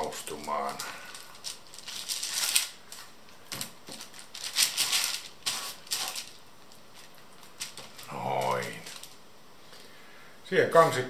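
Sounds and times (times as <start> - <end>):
paper rustling and crinkling: 0.0 - 9.2.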